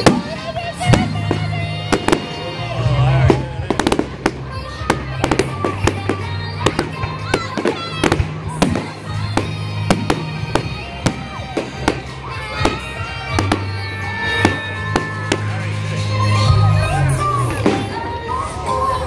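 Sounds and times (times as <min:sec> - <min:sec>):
fireworks bangs and cracks: 0:00.0 - 0:15.9, 0:17.5 - 0:18.4.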